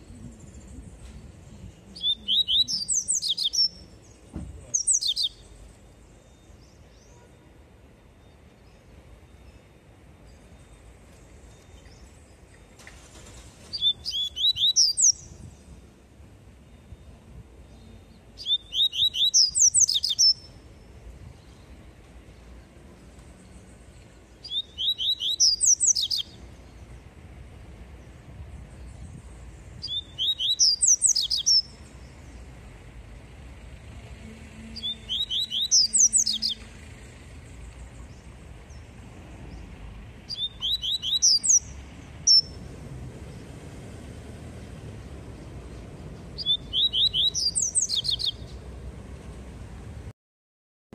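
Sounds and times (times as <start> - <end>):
bird singing: 0.0 - 7.5, 8.2 - 13.1, 13.7 - 15.9, 16.6 - 27.2, 28.0 - 32.8, 34.2 - 42.6, 45.4 - 48.7.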